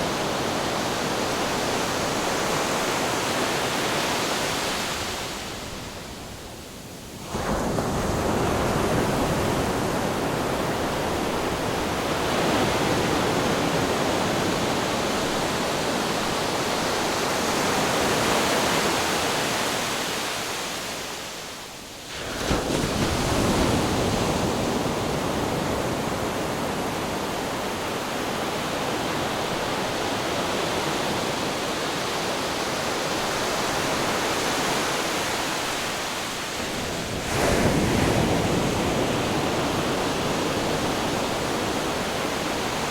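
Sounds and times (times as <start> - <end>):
ocean surf and breaking waves: 0.0 - 42.9.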